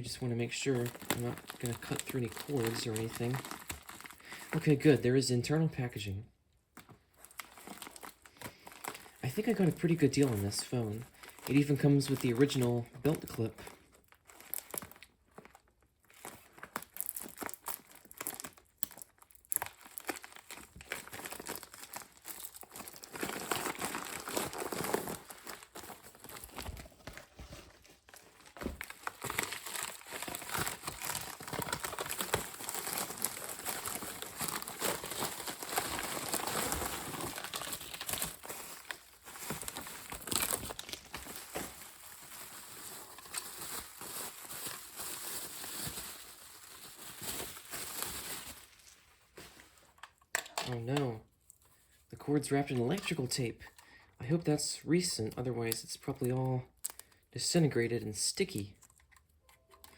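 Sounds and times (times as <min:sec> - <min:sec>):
packaging crinkling: 0:00.1 - 0:04.9, 0:06.7 - 0:50.8.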